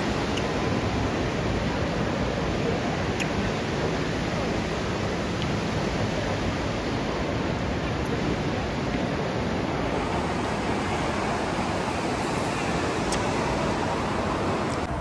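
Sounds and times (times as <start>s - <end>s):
shopping mall ambience: 0.0s - 15.0s.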